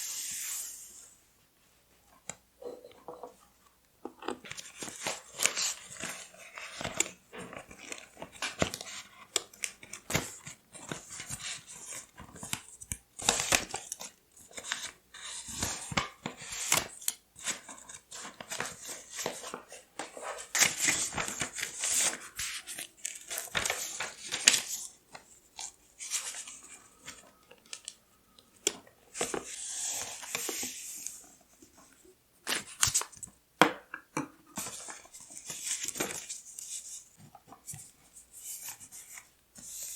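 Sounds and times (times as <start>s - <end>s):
paper rustling: 4.4s - 31.8s, 34.6s - 39.9s.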